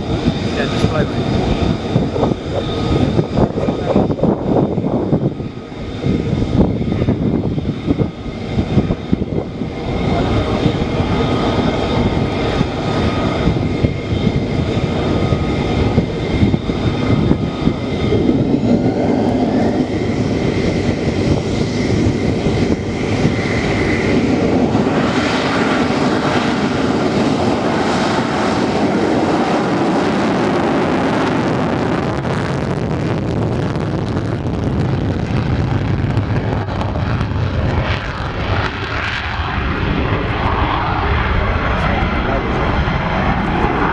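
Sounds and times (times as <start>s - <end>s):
jet engine roar with whine: 0.0s - 43.9s.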